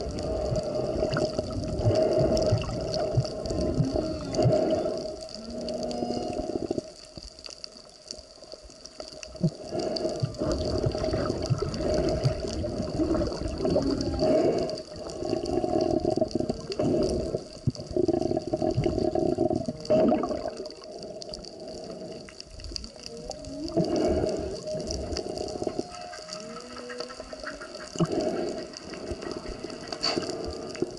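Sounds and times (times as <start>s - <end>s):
faint steady hum: 0.0s - 30.9s
muffled underwater bubbling: 0.0s - 30.9s.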